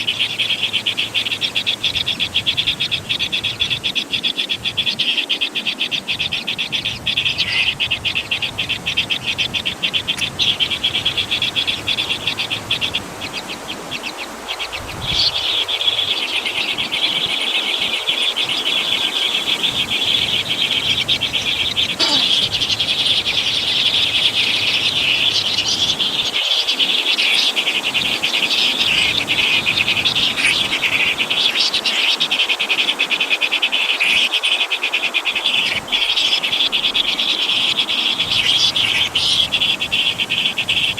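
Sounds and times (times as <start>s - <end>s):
insects and frogs calling: 0.0s - 40.9s.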